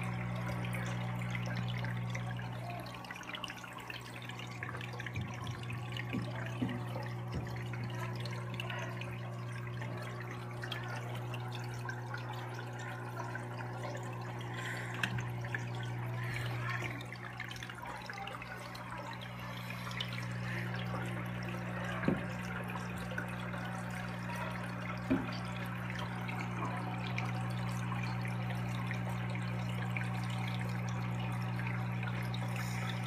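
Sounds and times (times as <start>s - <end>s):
steady electric hum: 0.0s - 33.0s
water trickling and splashing: 0.0s - 33.0s.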